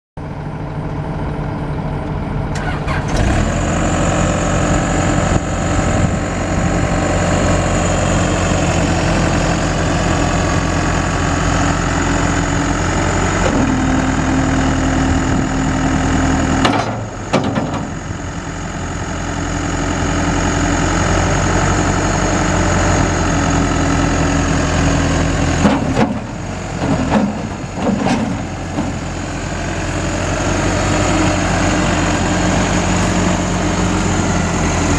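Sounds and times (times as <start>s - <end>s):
backhoe diesel engine running: 0.2s - 34.9s.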